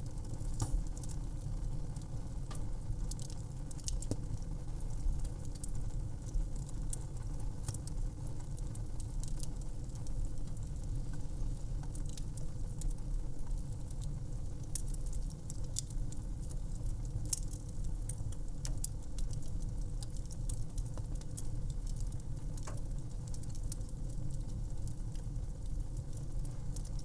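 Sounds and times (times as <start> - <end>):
low rumble of burning: 0.0 - 27.0
wood fire crackling: 0.0 - 27.0.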